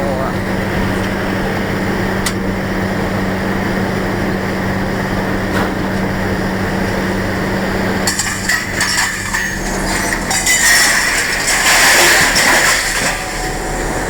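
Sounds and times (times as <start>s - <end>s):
road noise: 0.0s - 14.0s
truck engine hum: 0.0s - 14.0s.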